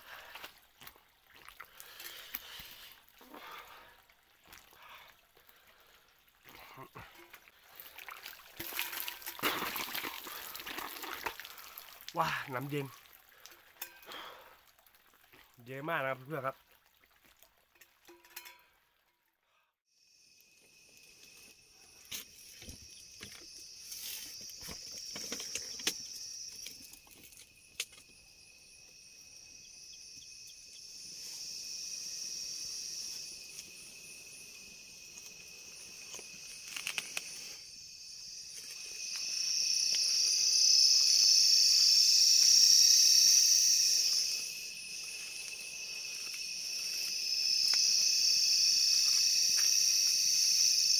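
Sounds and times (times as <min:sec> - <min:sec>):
crickets and insects chirring: 0:00.0 - 0:16.6, 0:19.9 - 0:50.9.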